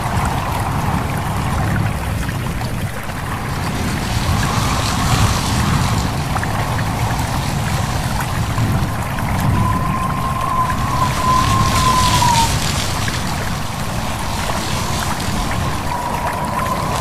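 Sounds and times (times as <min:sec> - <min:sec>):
low rumble: 0:00.0 - 0:17.0
stream water babbling: 0:00.0 - 0:17.0
wind: 0:00.0 - 0:17.0.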